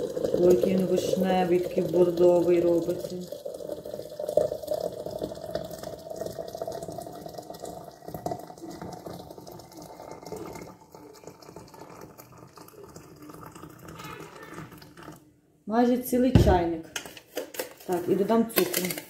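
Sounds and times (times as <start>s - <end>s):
water pouring into teapot: 0.0s - 15.3s.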